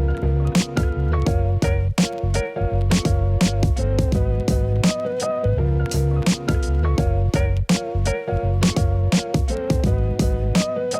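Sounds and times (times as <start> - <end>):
background music with steady beat: 0.0 - 10.9.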